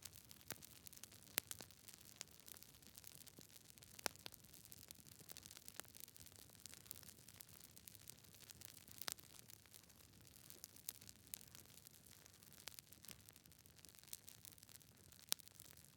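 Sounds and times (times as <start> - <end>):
campfire crackling: 0.0 - 15.8.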